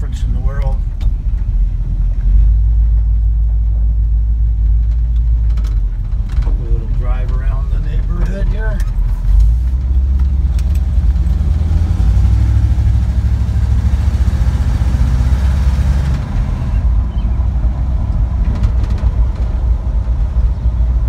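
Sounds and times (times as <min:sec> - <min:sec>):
road noise: 0:00.0 - 0:21.0
truck engine rumbling: 0:00.0 - 0:21.0.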